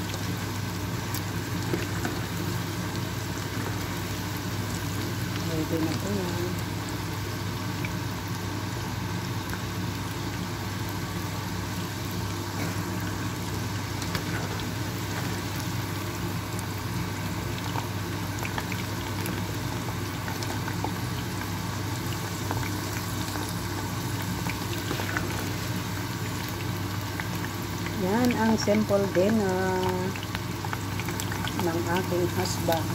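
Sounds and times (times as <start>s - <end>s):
fries sizzling in hot oil: 0.0s - 32.9s.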